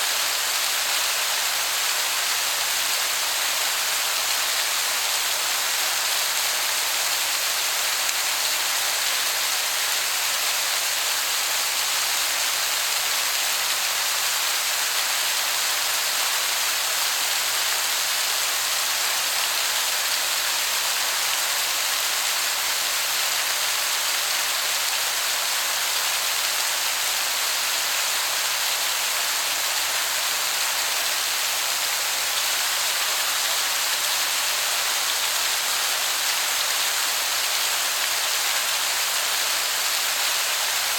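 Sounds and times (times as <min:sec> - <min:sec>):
distant waterfall hiss: 0:00.0 - 0:40.9.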